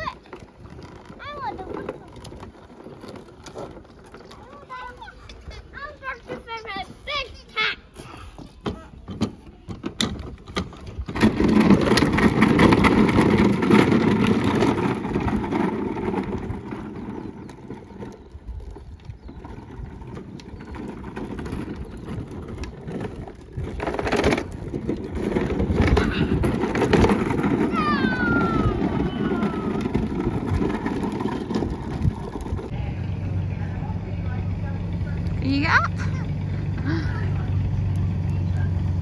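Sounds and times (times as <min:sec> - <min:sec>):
plastic wheels rolling on tarmac: 0:00.0 - 0:39.0.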